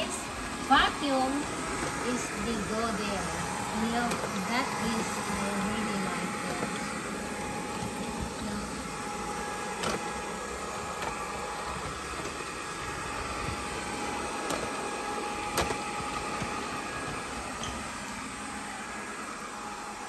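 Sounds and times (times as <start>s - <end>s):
robot vacuum motor hum: 0.0s - 20.0s.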